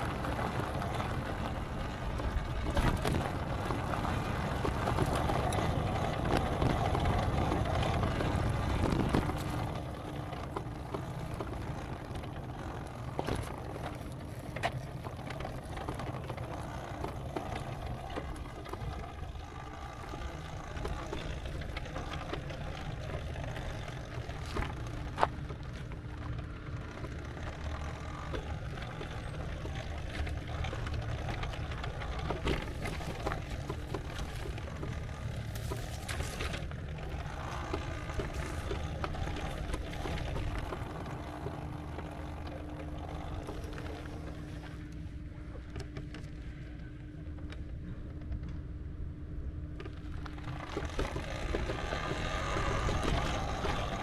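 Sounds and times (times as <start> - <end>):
vehicle rumble: 0.0 - 54.0.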